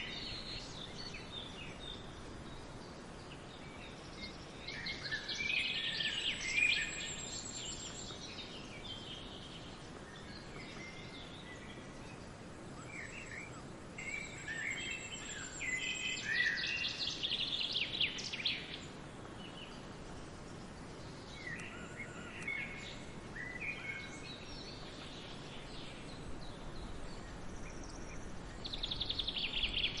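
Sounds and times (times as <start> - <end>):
soft background hiss: 0.0 - 30.0
songbirds chirping and trilling: 0.0 - 30.0.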